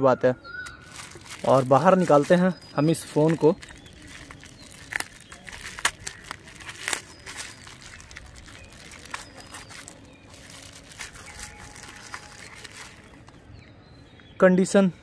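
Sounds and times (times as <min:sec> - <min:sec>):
bubble wrap crinkling and crackling: 0:00.6 - 0:13.4.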